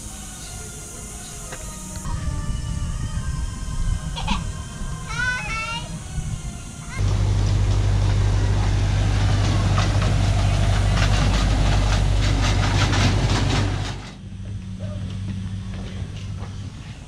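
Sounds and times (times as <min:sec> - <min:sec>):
ride-on train engine drone: 0:00.0 - 0:17.0.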